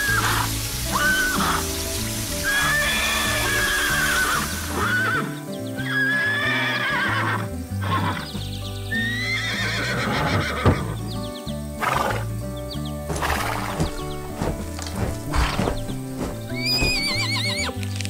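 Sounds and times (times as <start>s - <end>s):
horse whinnying: 0.0s - 1.7s, 2.4s - 8.3s, 9.0s - 11.0s, 11.8s - 12.2s, 13.1s - 17.9s
background music: 0.0s - 18.0s.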